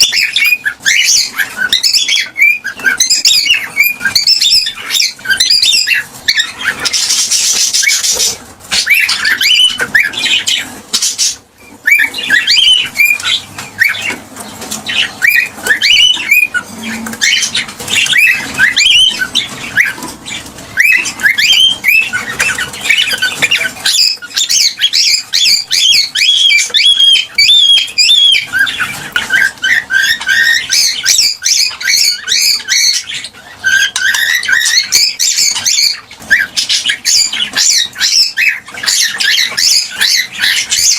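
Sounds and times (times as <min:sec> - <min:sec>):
cockatiels chirping and calling: 0:00.0 - 0:40.9.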